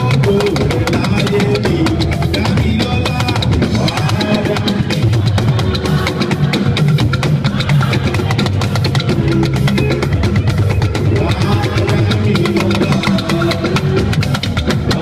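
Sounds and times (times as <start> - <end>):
live band music: 0.0 - 15.0
talking drums in fast rhythm: 0.0 - 15.0.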